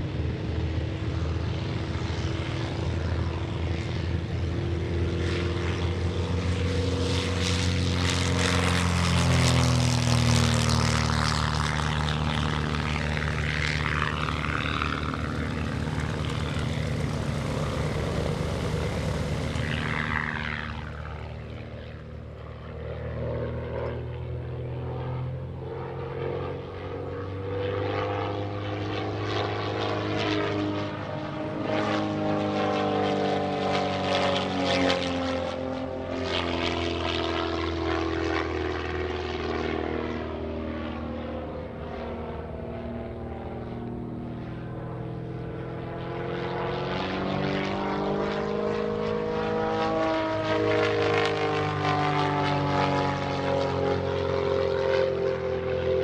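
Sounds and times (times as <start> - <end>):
propeller plane engine passing: 0.0 - 56.0.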